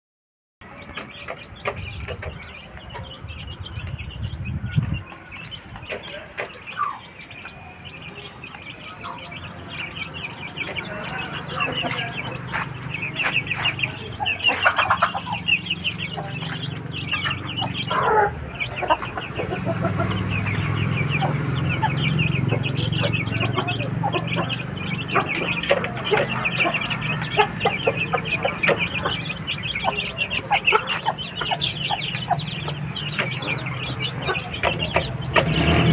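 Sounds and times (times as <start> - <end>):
chickens clucking and calling: 0.7 - 35.9.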